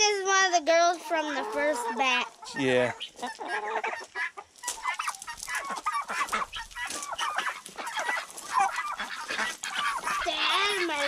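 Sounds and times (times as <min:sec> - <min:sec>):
chickens and turkeys clucking: 0:00.0 - 0:11.0.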